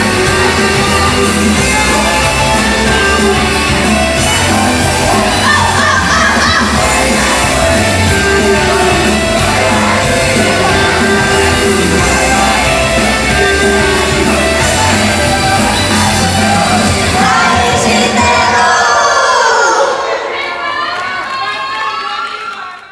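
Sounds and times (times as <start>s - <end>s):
group singing: 0.0s - 20.8s
fans shouting along: 0.0s - 22.9s
pop song over loudspeakers: 0.0s - 22.9s.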